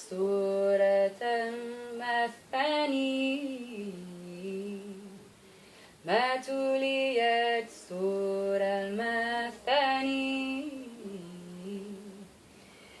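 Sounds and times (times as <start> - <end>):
woman singing unaccompanied: 0.0 - 5.4, 6.0 - 12.4.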